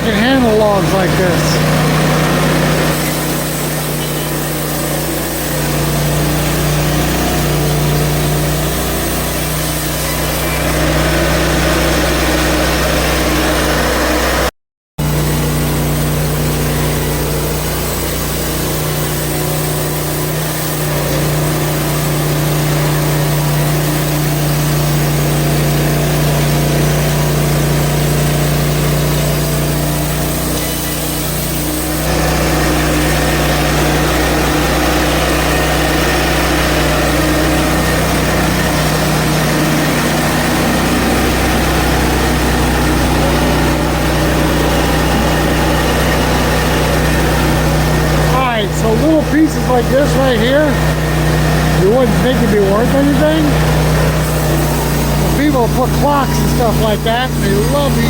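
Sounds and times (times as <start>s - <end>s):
band blade sawing log: 0.0s - 14.5s, 15.8s - 58.0s
sawmill gas engine running: 0.0s - 58.0s.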